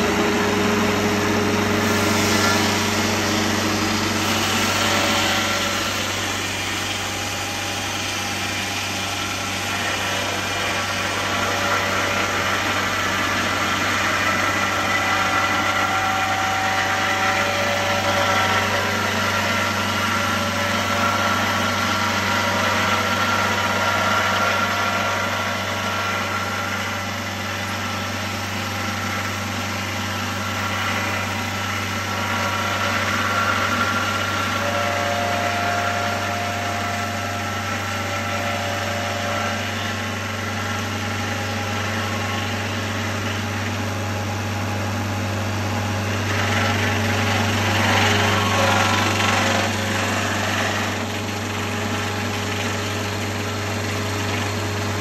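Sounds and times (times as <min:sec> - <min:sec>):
circular saw blades whining: 0:00.0 - 0:55.0
diesel engine drone: 0:00.0 - 0:55.0.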